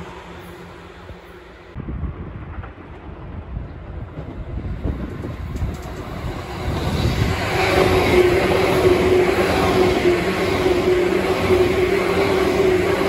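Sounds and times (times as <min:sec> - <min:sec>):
steady train hum: 0:00.0 - 0:13.0
train rumbling past: 0:00.0 - 0:13.0.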